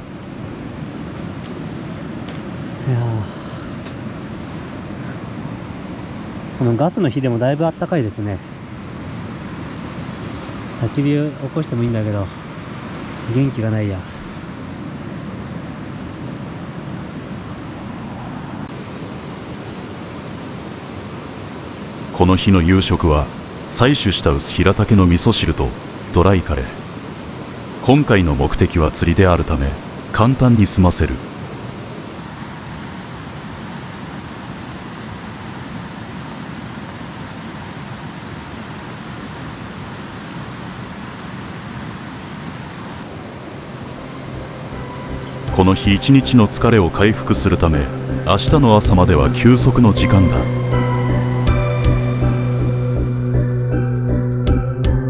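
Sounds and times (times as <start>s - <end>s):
mountain stream rushing: 0.0s - 53.3s.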